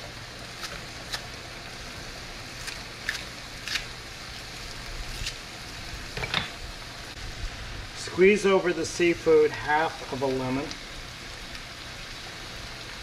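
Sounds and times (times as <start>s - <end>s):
food sizzling in skillet: 0.0s - 13.0s.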